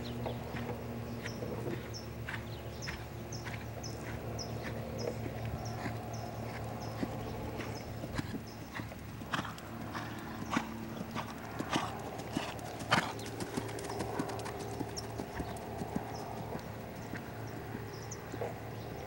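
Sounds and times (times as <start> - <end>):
hoofbeats on sand: 0.0 - 19.0.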